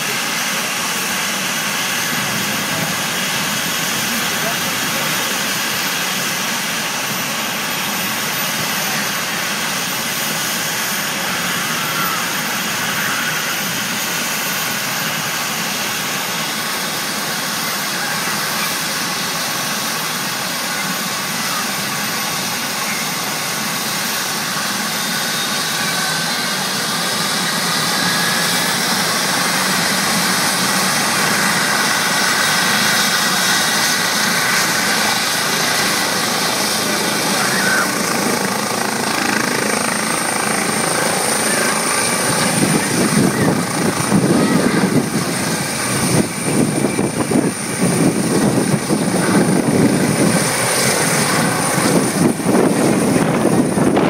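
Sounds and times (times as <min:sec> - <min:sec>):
broad rushing noise: 0:00.0 - 0:54.0
helicopter turbine whine: 0:00.0 - 0:54.0.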